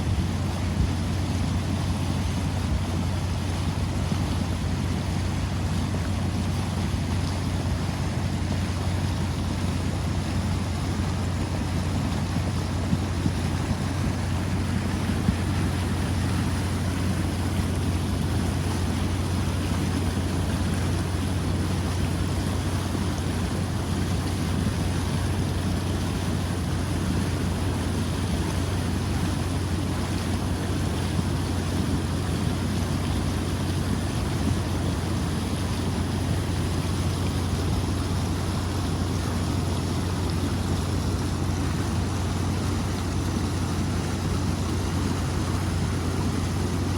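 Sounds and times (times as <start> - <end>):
flood water rushing down creek: 0.0 - 46.9.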